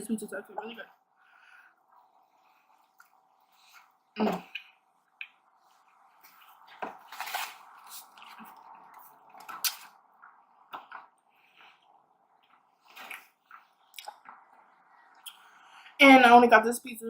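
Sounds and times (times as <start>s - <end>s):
person chewing food: 1.8s - 15.6s.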